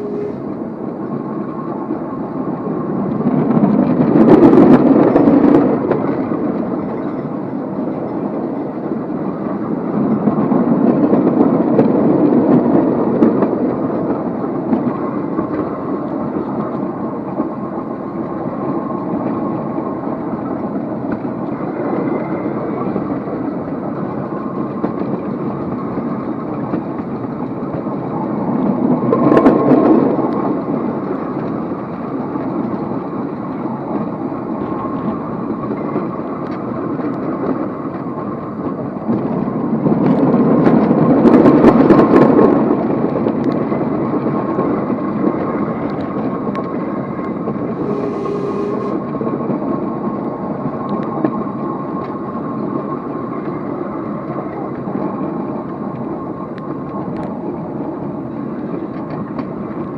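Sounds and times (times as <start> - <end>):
rail vehicle rumbling: 0.0 - 59.9.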